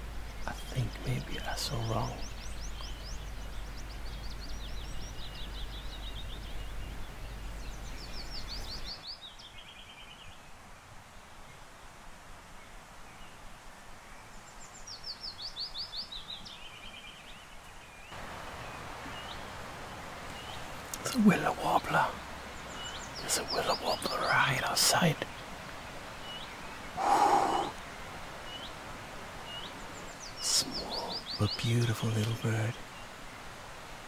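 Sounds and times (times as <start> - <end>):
warbler singing: 0.0 - 10.5, 14.0 - 33.2.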